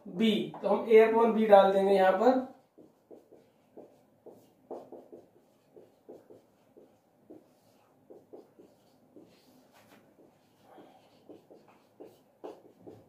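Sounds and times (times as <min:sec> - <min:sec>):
marker squeaking on whiteboard: 0:02.5 - 0:13.0.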